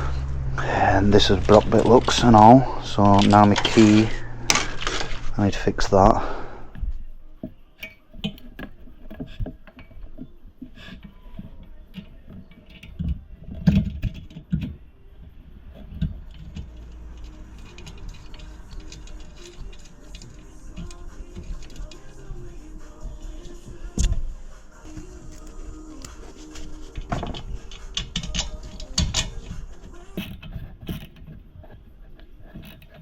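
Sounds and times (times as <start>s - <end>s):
tools clicking and clattering on metal: 0.1s - 6.4s, 7.8s - 33.0s.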